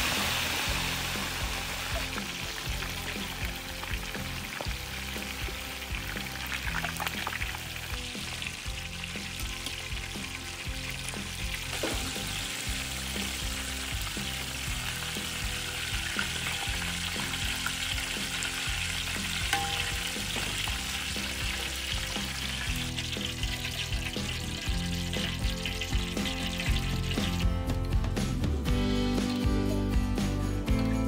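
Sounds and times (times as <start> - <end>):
oil sizzling and bubbling: 0.0 - 28.7.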